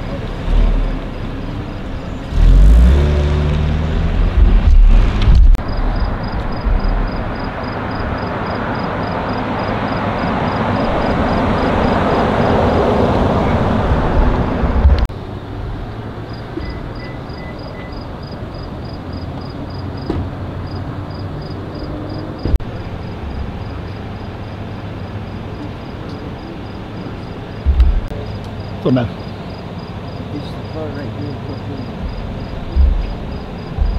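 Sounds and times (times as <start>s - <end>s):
vehicle driving past: 0.0s - 33.9s.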